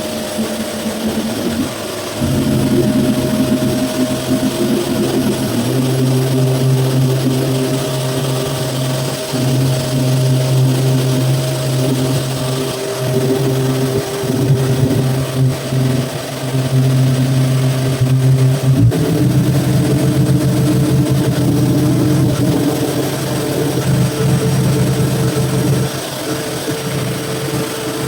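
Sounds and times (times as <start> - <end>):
power sander droning: 0.0 - 28.0.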